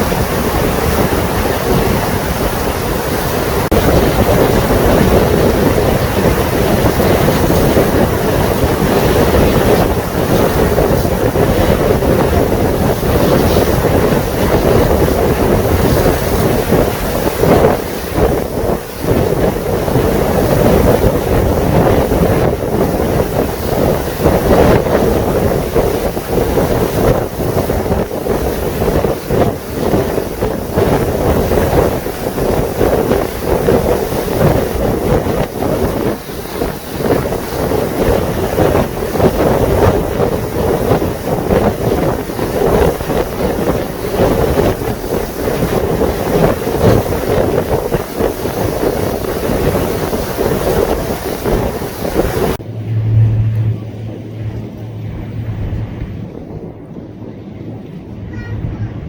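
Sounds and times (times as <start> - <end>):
boat engine drone: 0.0 - 59.0
water noise: 0.0 - 59.0
wind buffeting microphone: 0.0 - 59.0.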